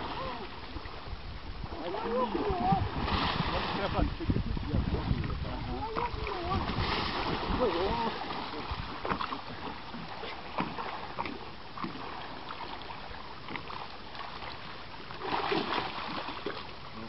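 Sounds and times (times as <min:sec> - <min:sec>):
fish thrashing and splashing: 0:01.8 - 0:16.7.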